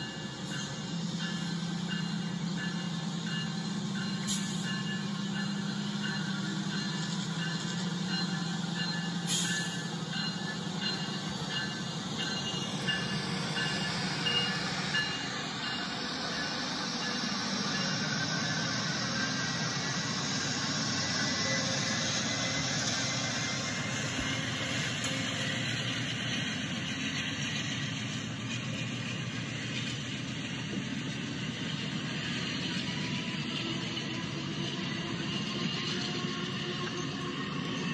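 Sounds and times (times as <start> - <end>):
train running hum: 0.0 - 37.9.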